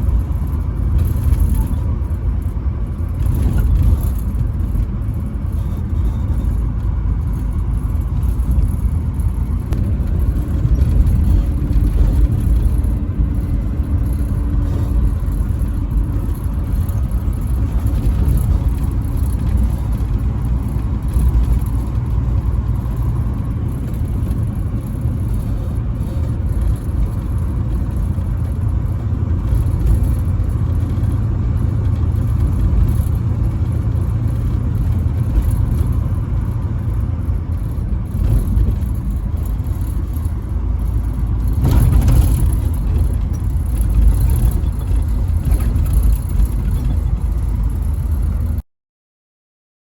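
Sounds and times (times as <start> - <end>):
truck driving on highway: 0.0 - 48.7.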